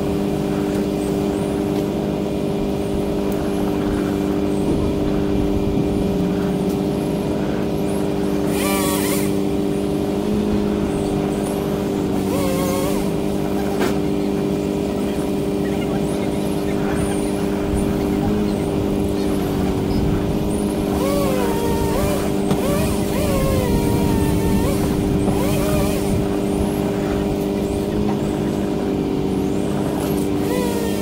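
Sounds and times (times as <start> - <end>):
truck engine humming: 0.0 - 31.0.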